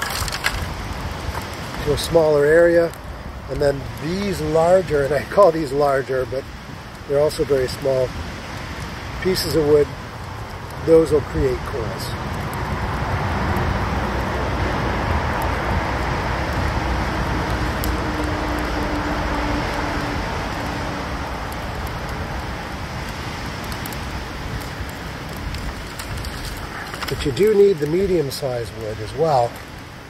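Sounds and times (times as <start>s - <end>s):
campfire crackles: 0.0s - 30.0s
rushing wind: 0.0s - 30.0s.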